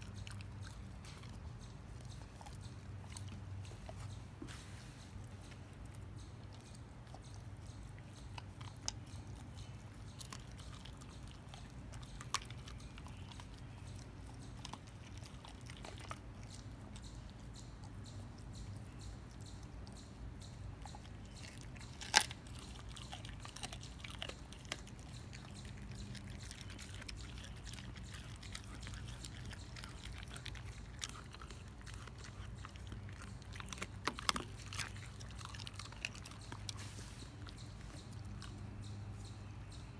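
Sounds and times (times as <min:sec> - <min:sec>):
dog gnawing bone: 0:00.0 - 0:04.5, 0:05.1 - 0:38.7.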